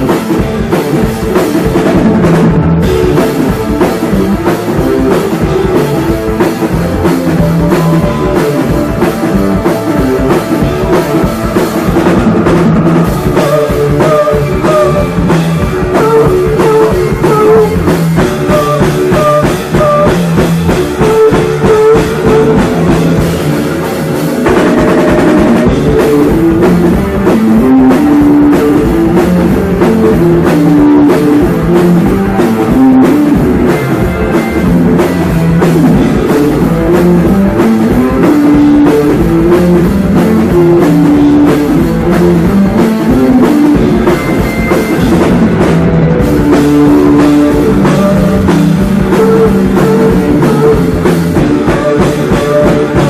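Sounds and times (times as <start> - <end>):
driving drum kit: 0.0 - 53.0
electric guitar: 0.0 - 53.0.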